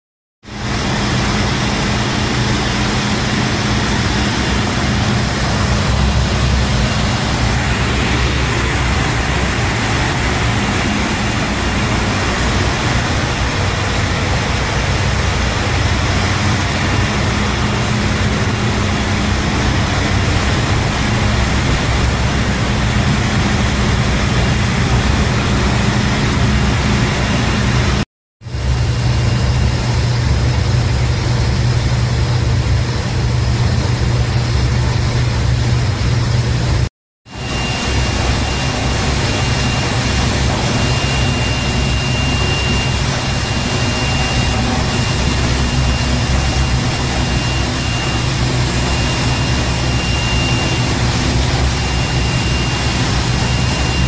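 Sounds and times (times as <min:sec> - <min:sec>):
industrial boiler humming and hissing: 0:00.4 - 0:54.0.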